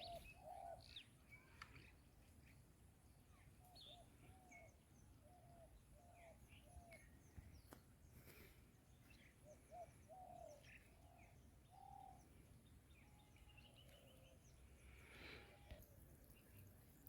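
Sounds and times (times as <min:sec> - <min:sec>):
birds calling: 0:00.0 - 0:02.6, 0:03.3 - 0:16.8.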